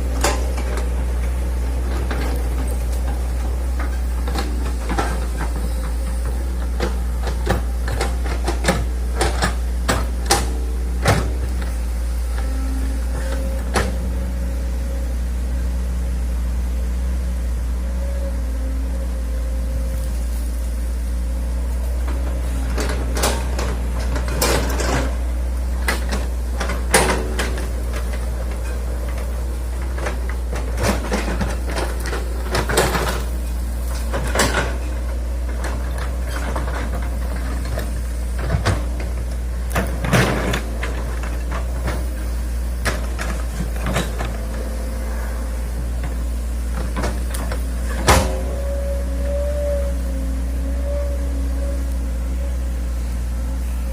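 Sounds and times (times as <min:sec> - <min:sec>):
excavator diesel engine droning: 0:00.0 - 0:53.9.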